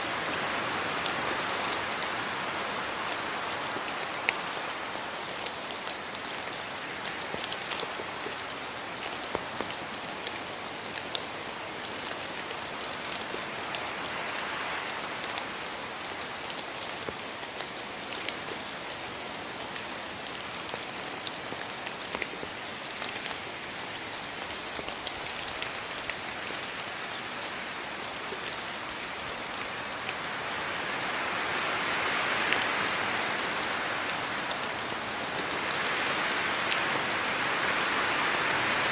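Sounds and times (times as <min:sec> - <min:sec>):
rain on hard surfaces: 0:00.0 - 0:38.9.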